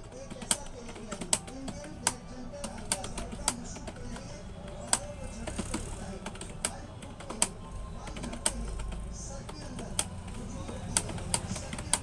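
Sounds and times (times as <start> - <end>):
computer keyboard typing: 0.0 - 12.0.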